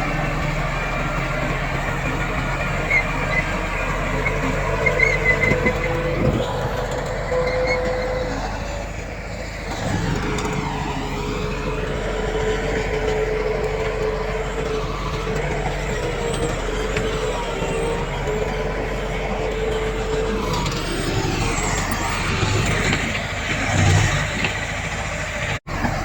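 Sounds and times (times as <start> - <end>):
diesel engine rumbling: 0.0 - 26.0
whining tone: 0.0 - 26.0.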